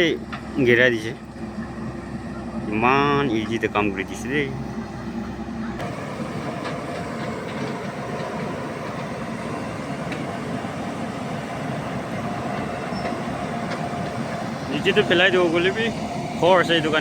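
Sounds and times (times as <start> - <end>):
excavator diesel engine running: 0.0 - 17.0
faint steady whine: 0.0 - 17.0.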